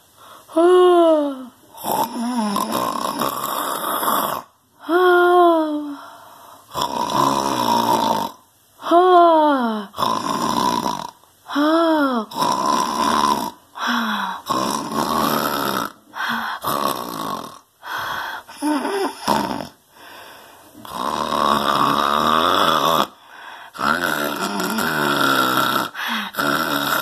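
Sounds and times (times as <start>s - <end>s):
person snoring loudly: 0.5s - 6.0s, 6.6s - 27.0s.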